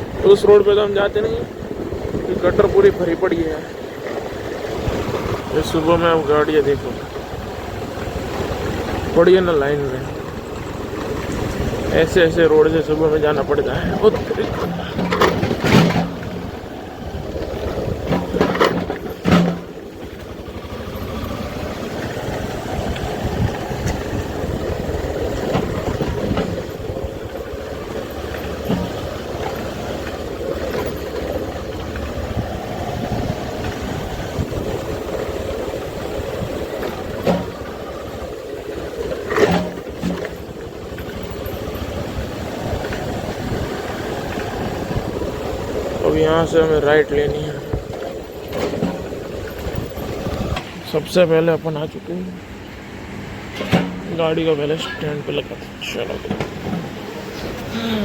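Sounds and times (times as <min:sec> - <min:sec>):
motorcycle engine running: 0:00.0 - 0:51.2.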